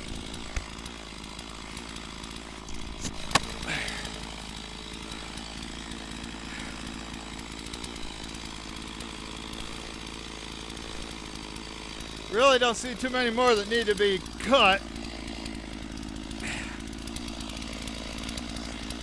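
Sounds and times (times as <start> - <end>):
chainsaw running: 0.0 - 19.0.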